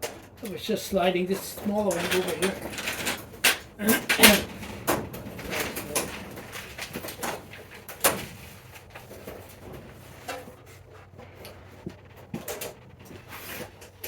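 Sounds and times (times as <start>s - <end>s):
greenhouse panels knocking and clicking: 0.0s - 14.0s.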